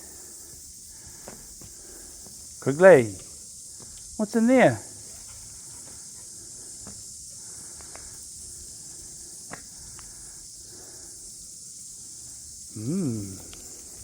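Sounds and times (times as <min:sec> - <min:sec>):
insects hissing: 0:00.0 - 0:14.0.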